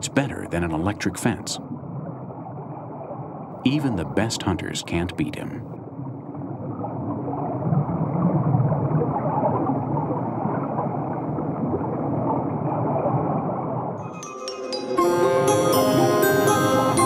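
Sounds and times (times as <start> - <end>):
muffled underwater rush: 0.0 - 14.0.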